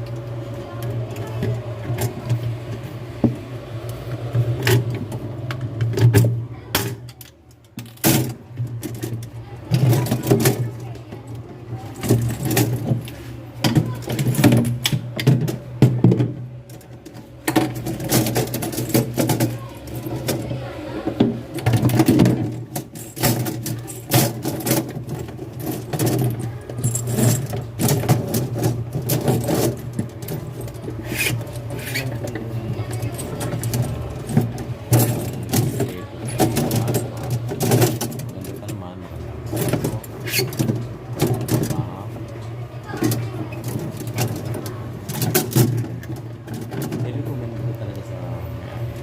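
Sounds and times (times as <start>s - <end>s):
clicks and knocks of handling: 0.0s - 38.8s, 39.4s - 47.2s
steady low hum: 0.0s - 49.0s.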